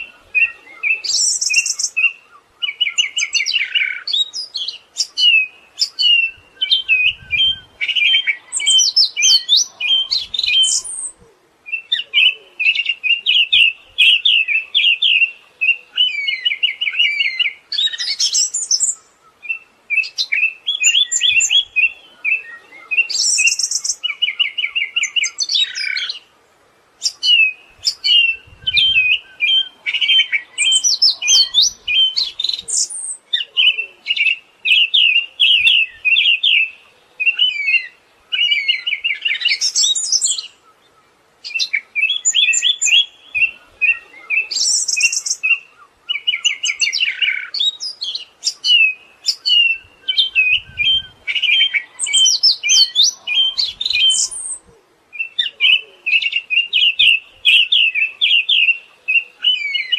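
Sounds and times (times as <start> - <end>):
bird singing chirps and whistles: 0.0 - 26.2, 27.0 - 40.6, 41.4 - 59.9.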